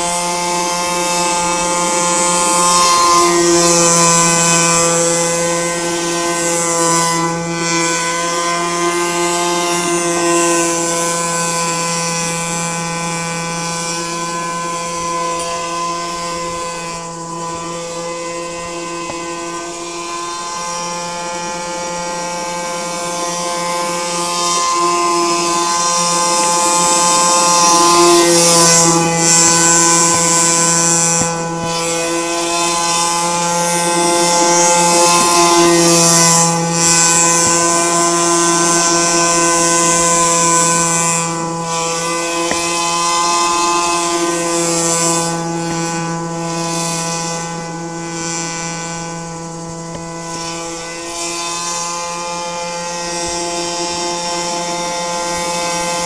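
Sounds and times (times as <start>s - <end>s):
model airboat motor droning: 0.0s - 56.0s.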